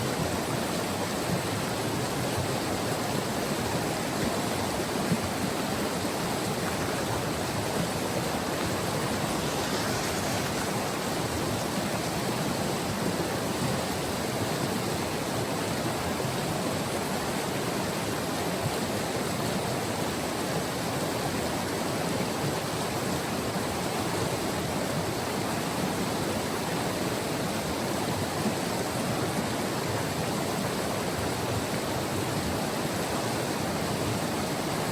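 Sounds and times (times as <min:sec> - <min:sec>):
river flowing over rocks: 0:00.0 - 0:34.9.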